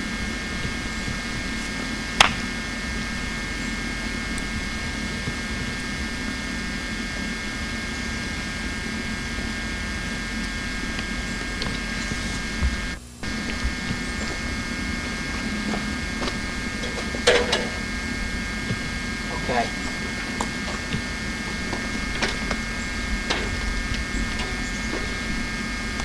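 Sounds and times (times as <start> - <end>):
camcorder hiss and hum: 0.0 - 26.0
faint whining tones: 0.0 - 26.0.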